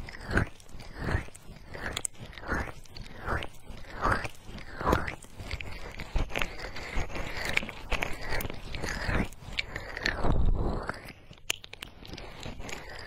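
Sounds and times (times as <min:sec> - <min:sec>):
fingers rubbing microphone: 0:00.0 - 0:13.0.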